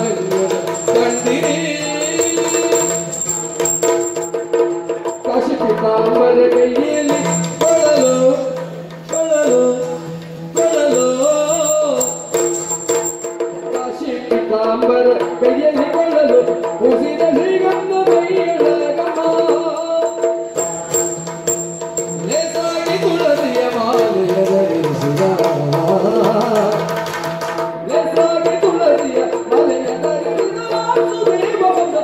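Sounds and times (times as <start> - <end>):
man singing: 0.0 - 4.0, 4.9 - 13.0, 13.6 - 21.0, 22.2 - 32.0
hand cymbal strikes: 0.0 - 5.6, 6.6 - 14.2, 19.5 - 32.0.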